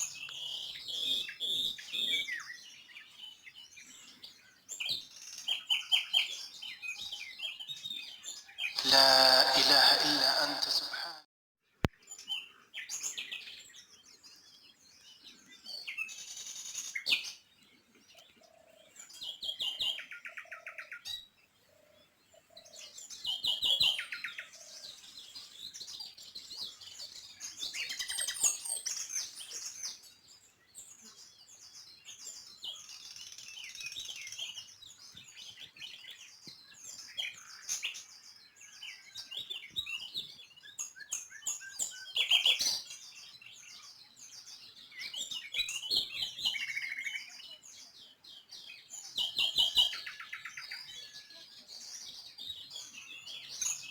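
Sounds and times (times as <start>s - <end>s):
small birds chirping: 0.0s - 11.0s, 11.8s - 53.9s.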